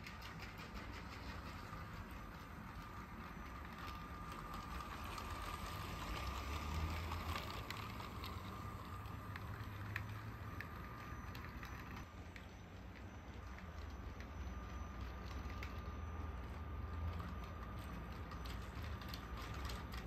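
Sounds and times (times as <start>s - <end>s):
toy train motor whine: 0.0s - 20.0s
wheels clicking on track: 0.0s - 20.0s.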